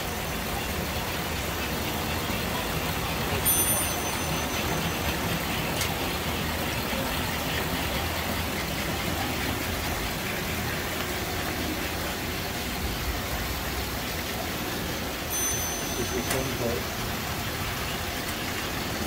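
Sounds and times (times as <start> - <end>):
toy trains running: 0.0 - 19.0.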